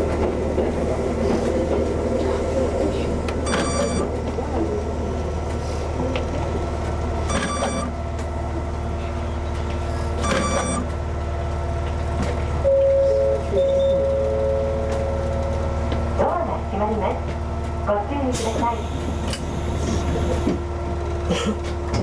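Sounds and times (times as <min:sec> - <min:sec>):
electric train humming: 0:00.0 - 0:21.5.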